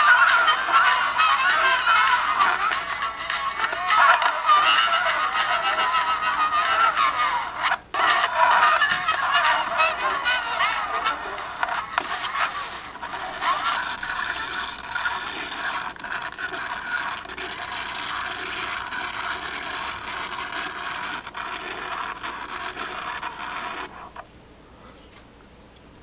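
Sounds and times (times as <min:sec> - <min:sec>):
razor blade scraping vinyl record: 0:00.0 - 0:24.2.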